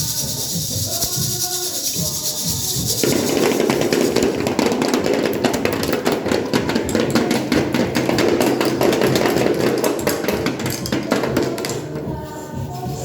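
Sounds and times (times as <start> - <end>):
children beating percussion: 0.0 - 12.7.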